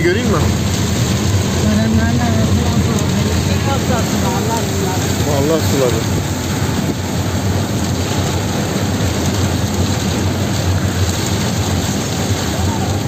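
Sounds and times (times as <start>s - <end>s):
car and tyres rumbling on wet road: 0.0s - 13.0s
heavy rain hitting a car: 0.0s - 13.0s.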